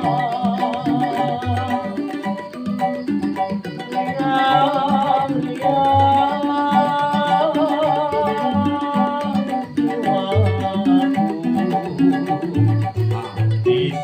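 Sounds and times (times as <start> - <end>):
person singing with vibrato: 0.0 - 14.0
plucked bass pattern: 0.0 - 14.0
plucked strings: 0.0 - 14.0.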